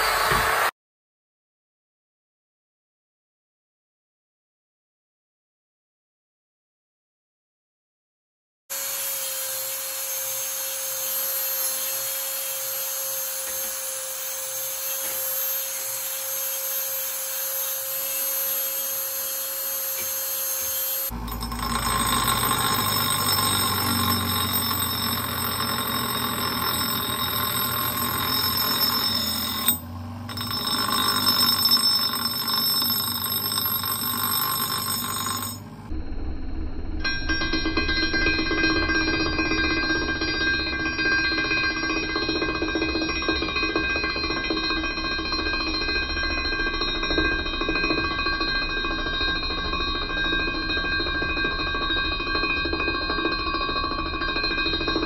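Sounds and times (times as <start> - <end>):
power grinders grinding steel: 0.0 - 0.7, 8.7 - 36.0, 37.0 - 55.0.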